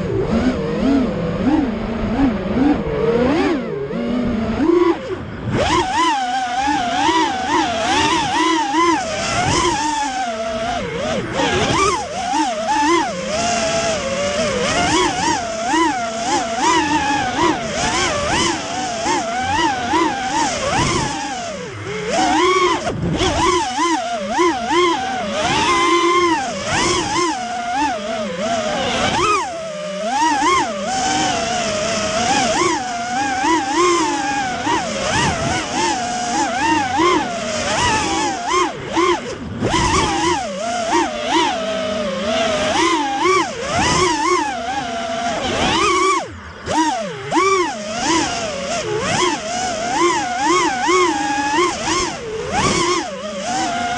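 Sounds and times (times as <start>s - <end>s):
quadcopter motors whining: 0.0s - 53.9s
rush of wind: 0.0s - 53.9s.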